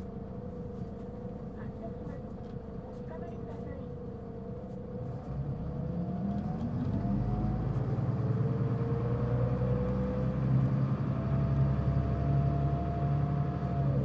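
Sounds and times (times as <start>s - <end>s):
bus diesel engine accelerating: 0.0s - 14.0s.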